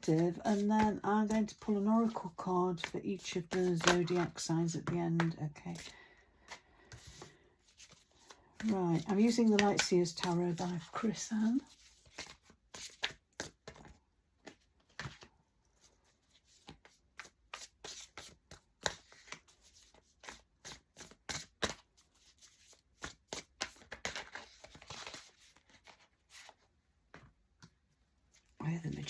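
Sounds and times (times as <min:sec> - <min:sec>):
cards being shuffled: 0:00.0 - 0:27.3.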